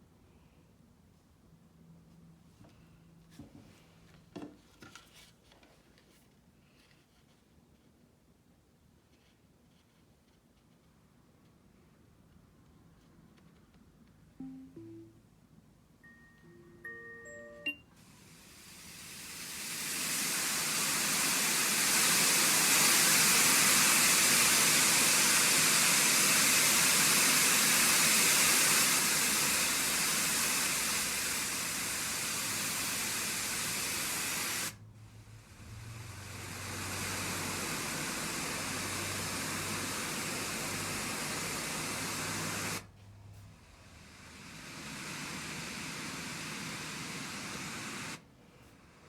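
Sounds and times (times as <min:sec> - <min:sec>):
white noise hiss: 0:00.0 - 0:04.5, 0:06.6 - 0:49.0.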